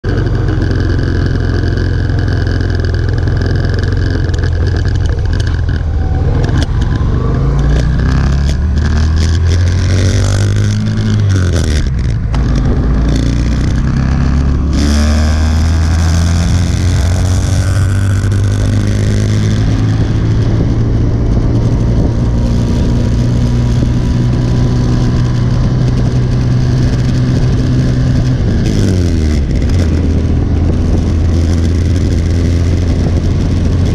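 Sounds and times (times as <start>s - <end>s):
motorcycle engine accelerating: 0.0s - 33.9s
wind rushing over microphone: 0.0s - 33.9s.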